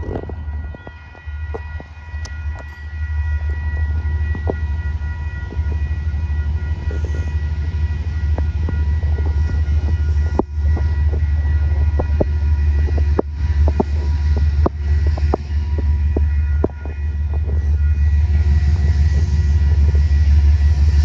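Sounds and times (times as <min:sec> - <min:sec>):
thin whining tones: 0:00.0 - 0:21.0
train rumbling: 0:00.0 - 0:21.0.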